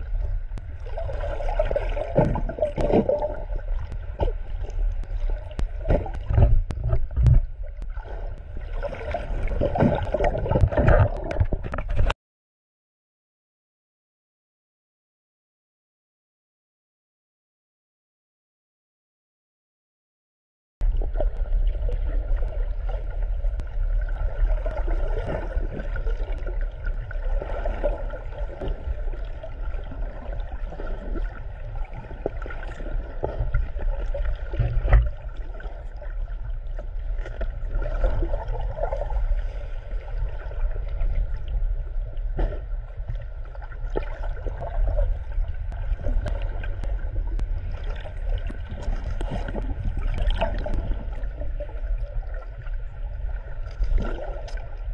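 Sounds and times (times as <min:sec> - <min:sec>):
underwater rumble of water movement: 0:00.0 - 0:12.2, 0:20.8 - 0:54.9.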